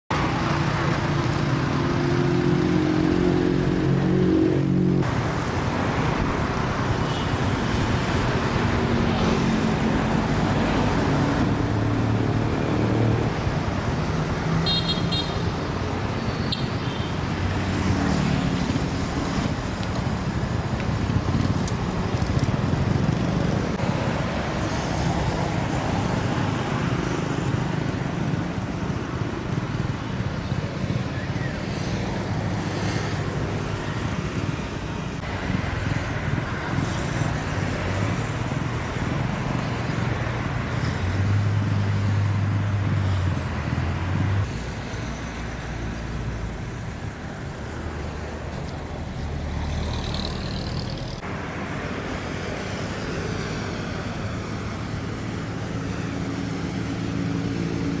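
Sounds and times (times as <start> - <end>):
cars and motorcycles passing: 0.1 - 58.0
traffic rumble: 0.1 - 58.0.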